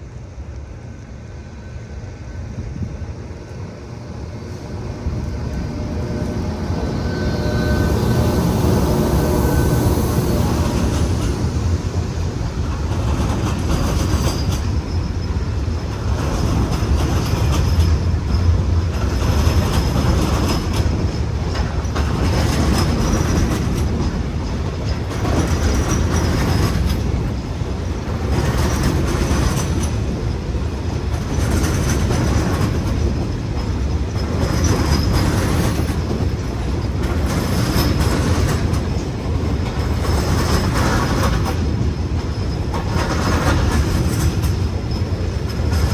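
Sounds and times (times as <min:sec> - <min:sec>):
train rumbling past: 0:00.0 - 0:45.9
wheels clattering over rail joints: 0:02.6 - 0:45.9.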